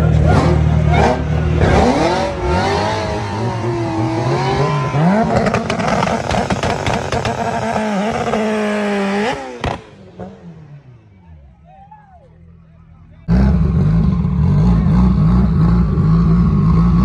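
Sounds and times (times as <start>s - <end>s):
race car engine revving: 0.0s - 11.5s, 13.2s - 17.0s.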